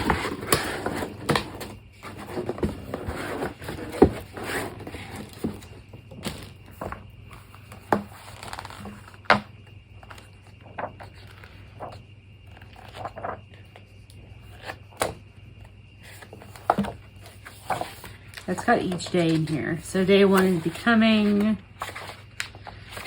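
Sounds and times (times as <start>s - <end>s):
paper rustling and scraping: 0.0s - 9.2s, 10.0s - 13.8s, 16.0s - 23.0s.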